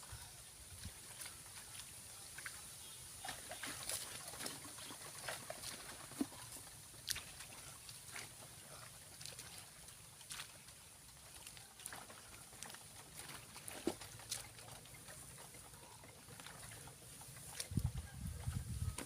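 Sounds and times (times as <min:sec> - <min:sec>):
wading through shallow water: 0:00.0 - 0:19.0.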